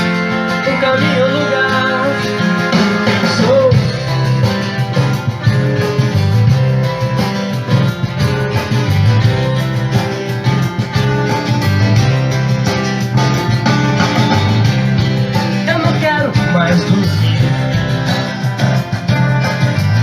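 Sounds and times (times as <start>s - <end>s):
instrumental rock music: 0.0s - 20.0s.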